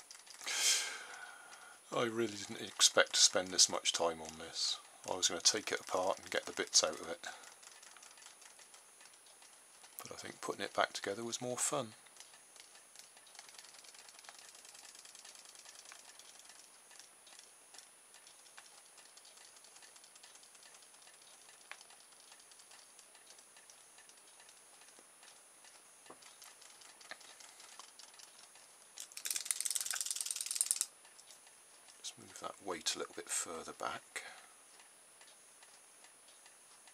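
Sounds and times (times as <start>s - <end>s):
toy motor ticking rapidly: 0.0s - 1.2s, 1.9s - 32.0s.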